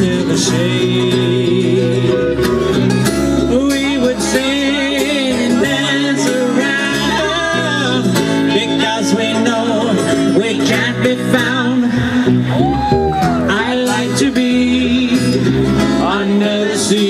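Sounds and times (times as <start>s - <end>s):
guitar accompaniment: 0.0s - 17.0s
live band music: 0.0s - 17.0s.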